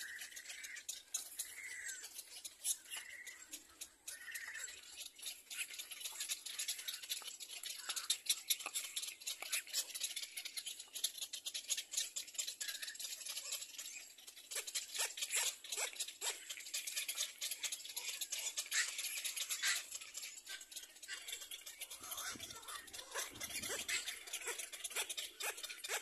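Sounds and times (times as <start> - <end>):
birds clicking and chattering: 0.0 - 26.0.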